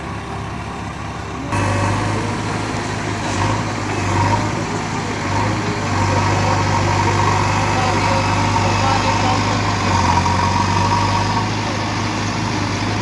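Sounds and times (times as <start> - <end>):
tractor diesel engine humming: 0.0 - 13.0.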